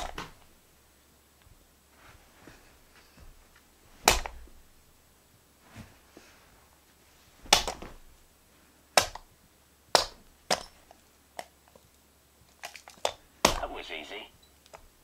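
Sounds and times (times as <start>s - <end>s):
hand slapping carpeted floor: 0.0s - 0.7s, 1.4s - 5.0s, 5.6s - 8.3s, 8.9s - 13.8s.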